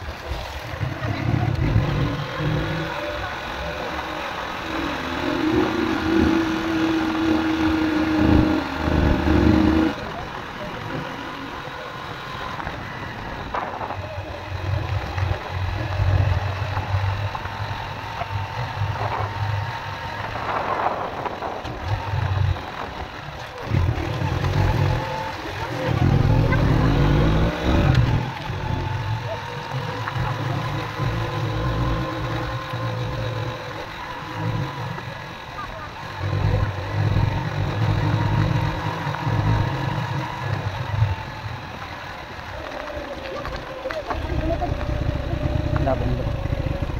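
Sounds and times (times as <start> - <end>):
small motorcycle engine running: 0.0 - 46.9.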